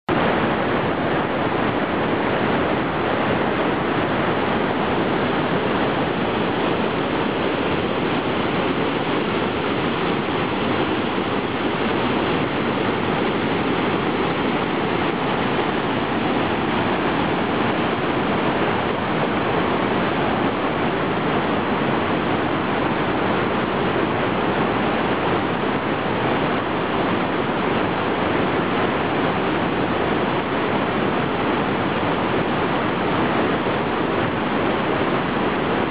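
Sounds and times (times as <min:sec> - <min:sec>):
water rushing over rocks: 0:00.1 - 0:35.9.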